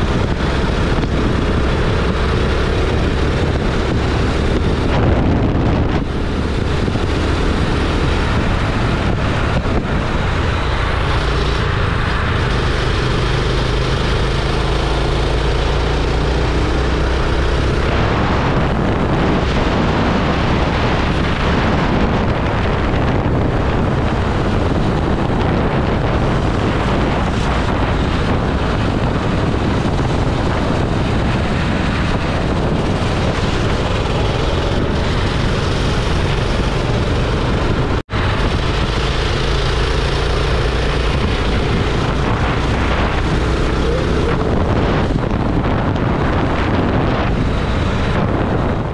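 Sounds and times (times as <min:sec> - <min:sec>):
go-kart engine running: 0:00.0 - 0:48.9
wind buffeting microphone: 0:00.0 - 0:48.9.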